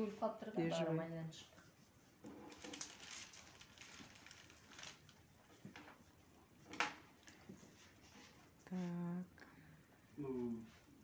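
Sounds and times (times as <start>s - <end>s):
faint small clicks and rustles: 1.4s - 11.0s.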